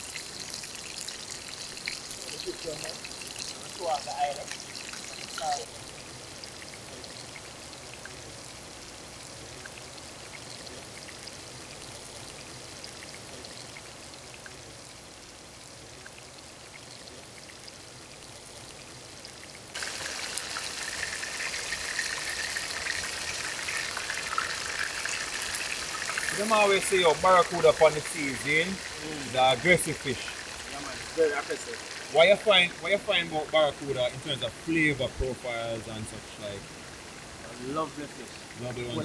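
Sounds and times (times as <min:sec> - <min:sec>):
fish frying in hot oil: 0:00.0 - 0:39.0
soft hiss: 0:00.0 - 0:39.0.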